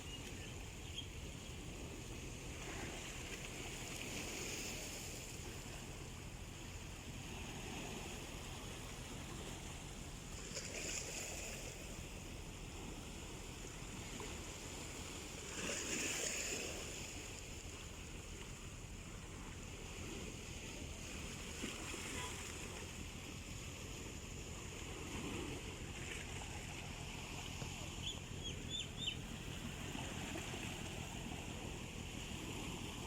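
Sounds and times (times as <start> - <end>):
small waves washing on shore: 0.0 - 33.0.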